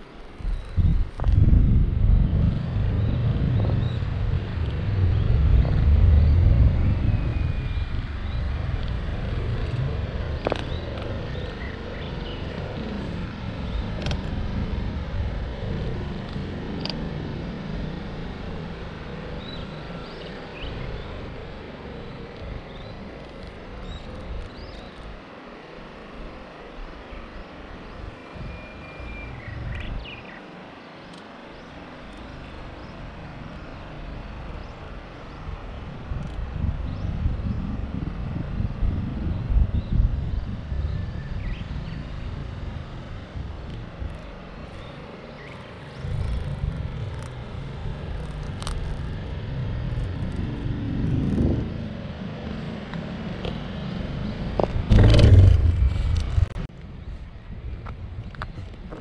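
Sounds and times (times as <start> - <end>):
road noise from bicycle: 0.0 - 59.0
wind rumbling on microphone: 0.0 - 59.0.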